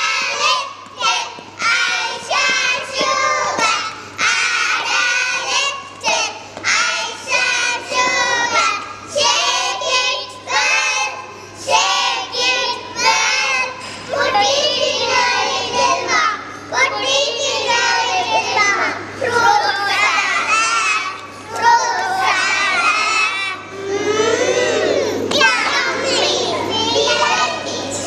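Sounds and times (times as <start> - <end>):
children singing in unison: 0.0 - 28.0.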